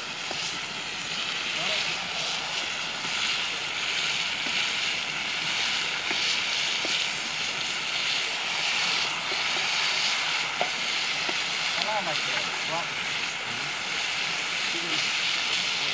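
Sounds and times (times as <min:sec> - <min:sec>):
meat sizzling in a wok: 0:00.0 - 0:15.9.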